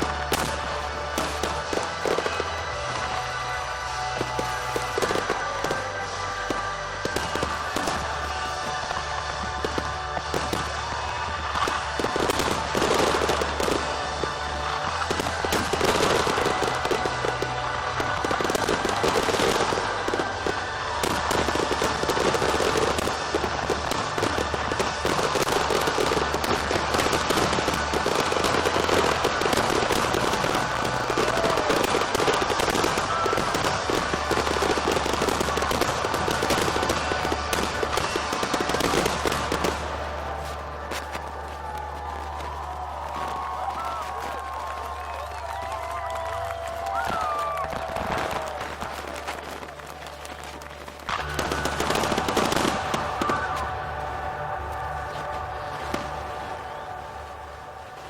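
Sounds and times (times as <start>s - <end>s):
fireworks bangs and crackling: 0.0s - 58.0s
music playing: 0.0s - 58.0s.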